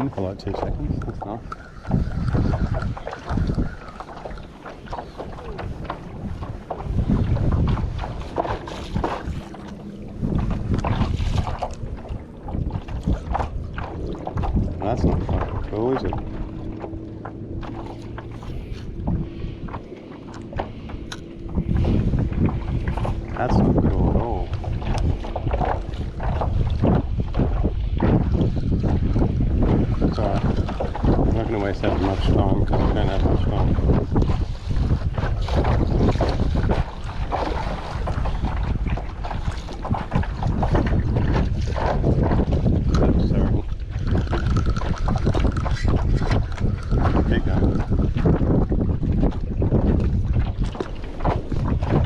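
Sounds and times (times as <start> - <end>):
water slapping against hull: 0.0 - 52.0
wind rumbling on microphone: 0.0 - 52.0.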